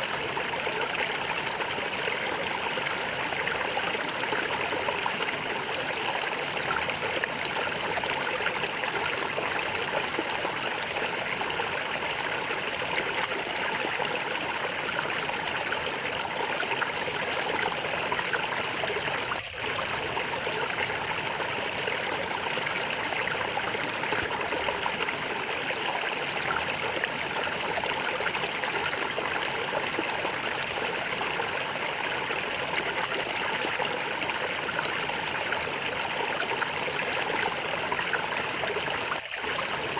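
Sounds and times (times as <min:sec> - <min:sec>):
stream flowing and gurgling: 0:00.0 - 0:39.9.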